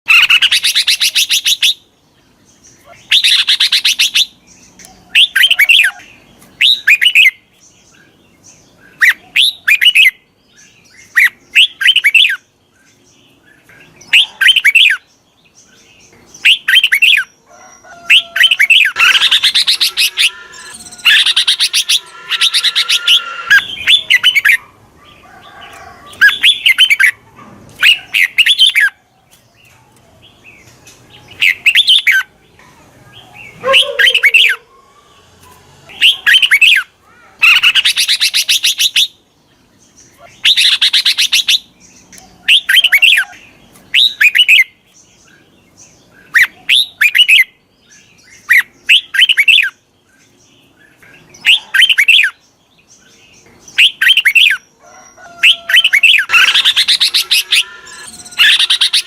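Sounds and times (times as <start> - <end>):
bird chirping song: 0.1 - 59.0.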